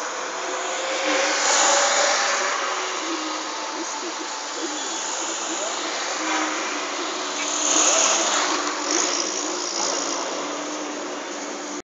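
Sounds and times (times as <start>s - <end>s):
road traffic hiss: 0.0s - 11.8s.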